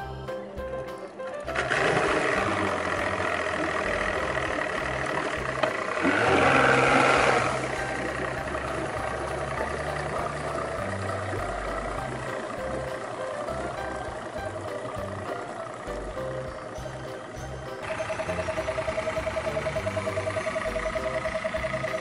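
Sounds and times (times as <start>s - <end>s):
outboard motor running: 0.0s - 22.0s
propeller churning water: 0.0s - 22.0s.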